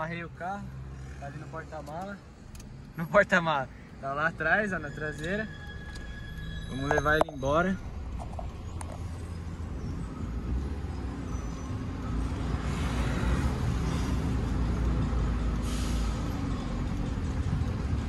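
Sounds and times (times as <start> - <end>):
city traffic: 0.0 - 18.0.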